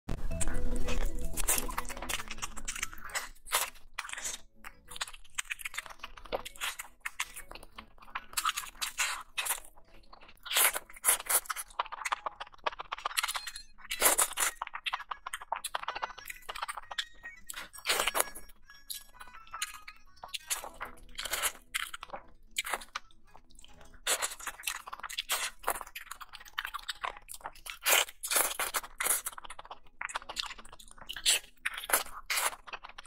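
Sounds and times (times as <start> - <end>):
biting and wet chewing: 0.3 - 33.0.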